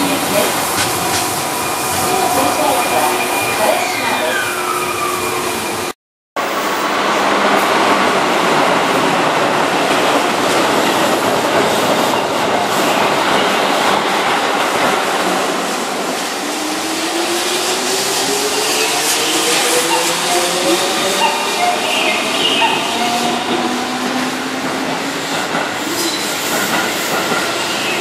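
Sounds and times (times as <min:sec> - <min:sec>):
electric train running on track: 0:00.0 - 0:28.0.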